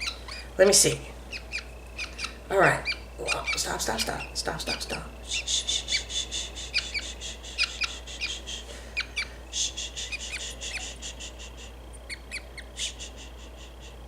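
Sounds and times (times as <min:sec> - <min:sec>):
budgerigar chick squawking: 0:00.0 - 0:00.7, 0:01.3 - 0:13.2.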